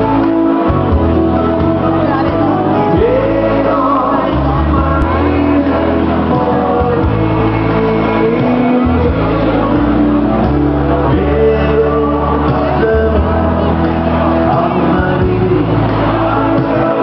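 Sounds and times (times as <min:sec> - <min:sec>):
live band with electric guitars: 0:00.0 - 0:17.0.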